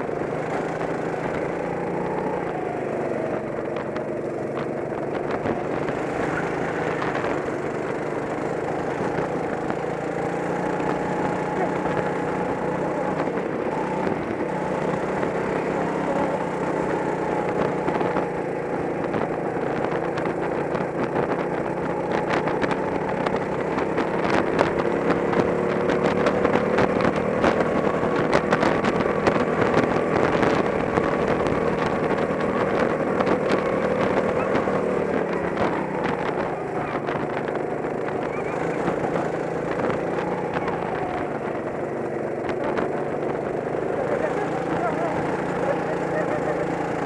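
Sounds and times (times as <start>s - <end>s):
go-kart engine running: 0.0s - 47.0s.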